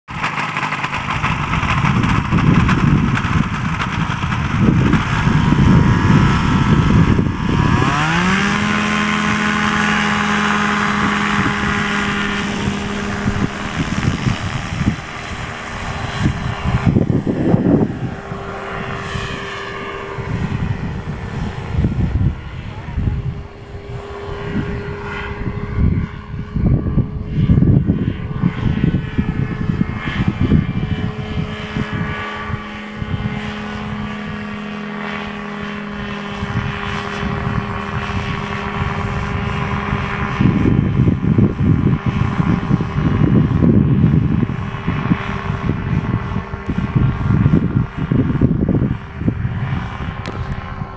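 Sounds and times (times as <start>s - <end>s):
ultralight aircraft engine droning: 0.0s - 50.9s
low rumbling: 0.1s - 50.9s.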